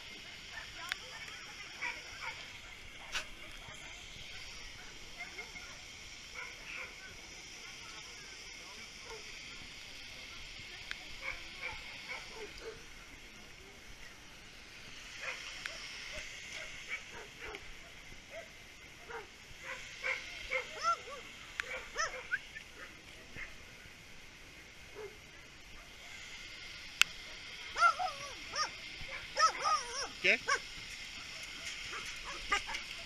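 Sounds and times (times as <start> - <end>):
many dogs barking and yelping: 0.4 - 9.8, 10.8 - 13.0, 15.1 - 23.6, 24.9 - 26.3, 27.2 - 33.0.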